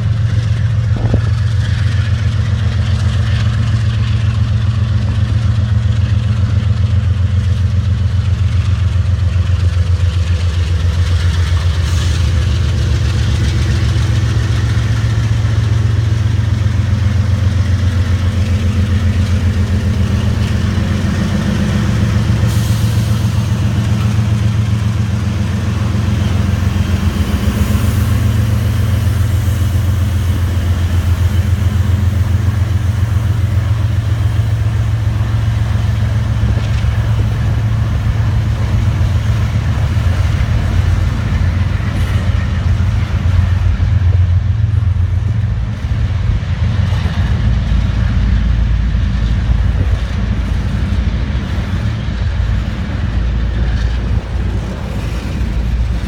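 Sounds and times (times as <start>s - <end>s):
diesel locomotive engine throbbing: 0.0s - 56.0s.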